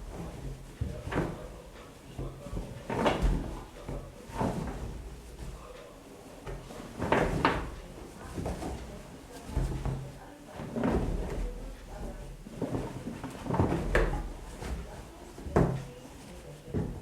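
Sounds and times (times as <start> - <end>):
laundry tumbling in drum: 0.0 - 5.8, 6.4 - 17.0.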